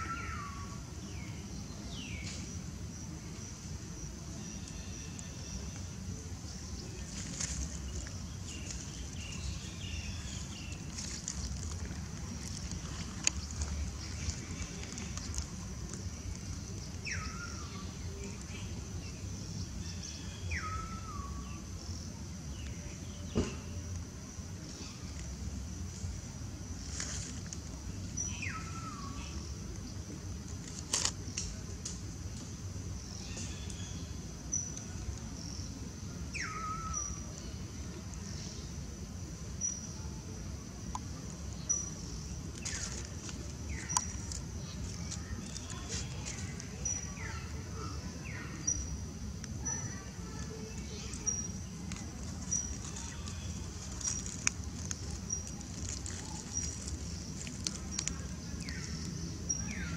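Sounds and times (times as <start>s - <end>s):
steady low rumble: 0.8s - 59.9s.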